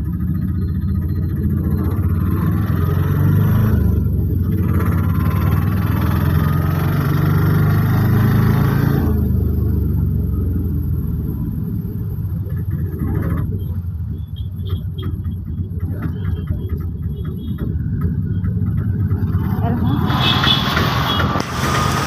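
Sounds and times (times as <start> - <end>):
auto-rickshaw engine rumbling: 0.0 - 22.0.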